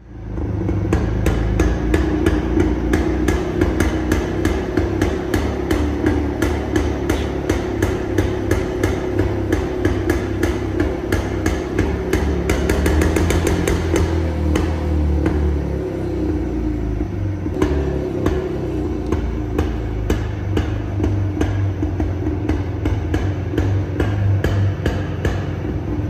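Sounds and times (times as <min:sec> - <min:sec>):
motorcycle engine idling with pops: 0:00.0 - 0:26.0.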